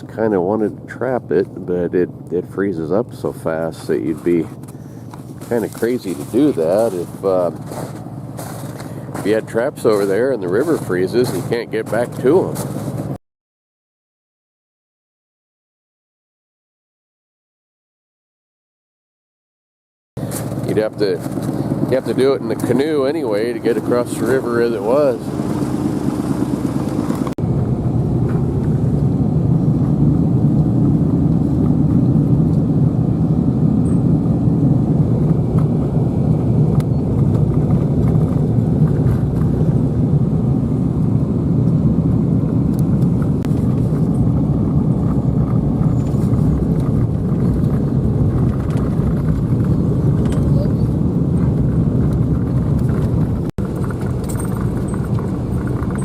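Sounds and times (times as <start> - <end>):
vehicle driving on road: 0.0 - 13.2, 20.2 - 56.0.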